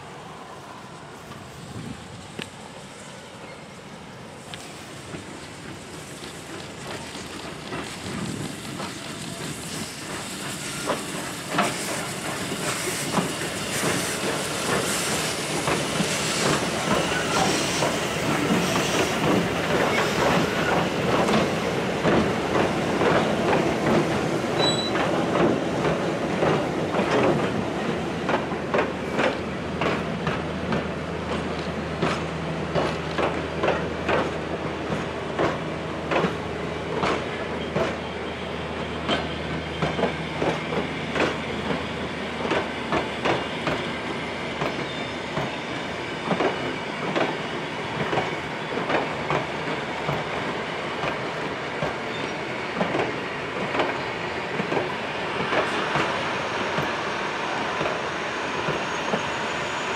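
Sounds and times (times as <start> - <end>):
steam locomotive running: 0.0 - 59.9
steam hissing: 4.5 - 28.0, 34.2 - 59.9.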